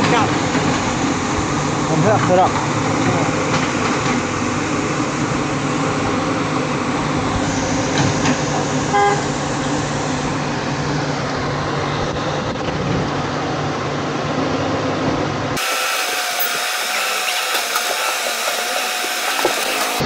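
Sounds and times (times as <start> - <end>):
engines idling in traffic: 0.0 - 20.0.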